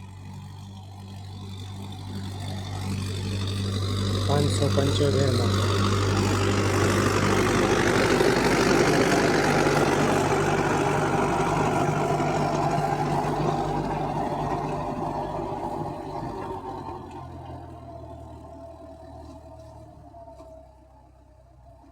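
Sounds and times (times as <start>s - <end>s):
rotavator tiller noise: 0.0s - 20.9s
tractor engine hum: 0.0s - 21.9s.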